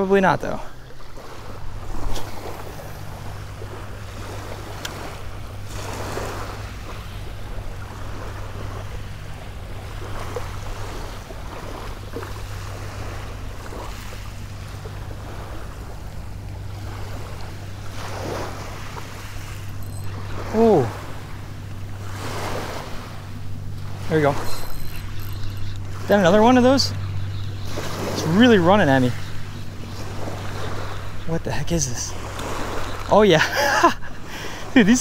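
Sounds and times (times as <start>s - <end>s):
small waves washing on beach: 0.0s - 35.0s
steady low hum: 0.0s - 35.0s.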